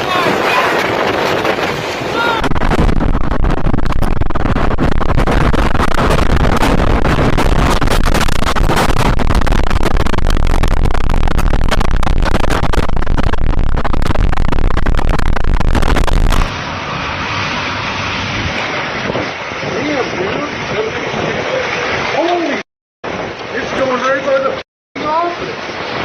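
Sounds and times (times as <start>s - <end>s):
crackling wind buffets: 0.0s - 26.0s
hurricane wind on microphone: 0.0s - 26.0s.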